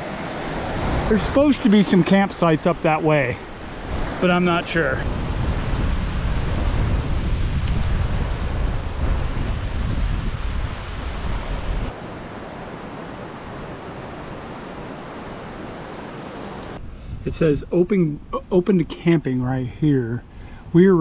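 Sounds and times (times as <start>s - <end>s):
wind buffeting microphone: 0.0s - 18.4s.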